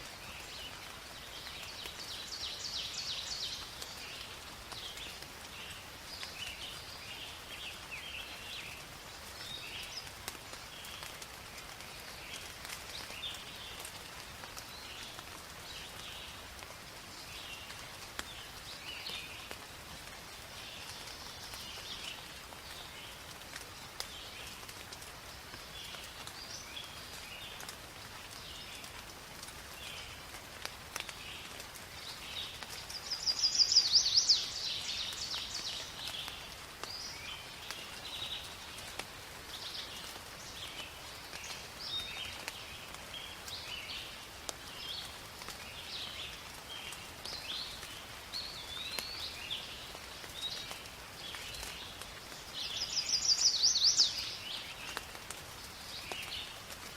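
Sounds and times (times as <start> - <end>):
light rain in forest: 0.0 - 56.9.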